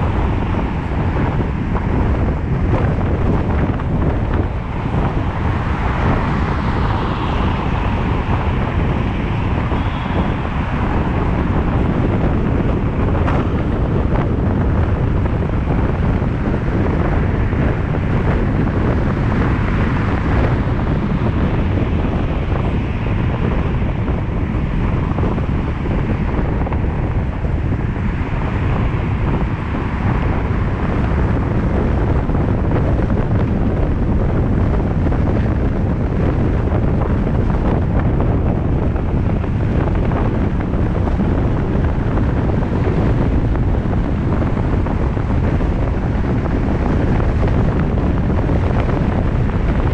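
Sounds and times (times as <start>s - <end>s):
car driving road noise: 0.0s - 49.9s
wind buffeting microphone: 0.0s - 49.9s.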